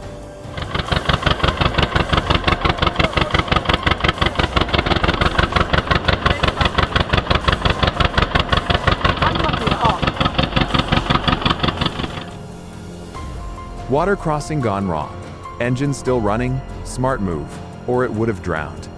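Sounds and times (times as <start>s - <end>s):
tractor diesel engine running: 0.0s - 18.7s.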